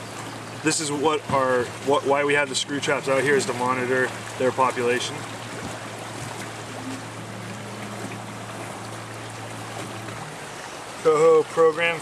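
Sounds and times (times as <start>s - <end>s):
low steady hum: 0.0s - 11.8s
river water rushing: 0.0s - 12.0s.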